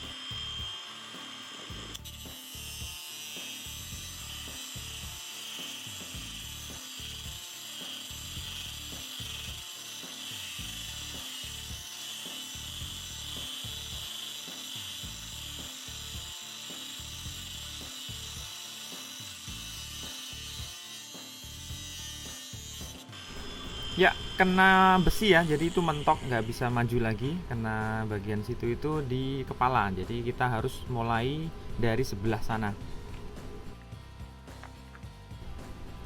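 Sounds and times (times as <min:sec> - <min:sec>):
angle grinder cutting steel: 0:00.0 - 0:34.7.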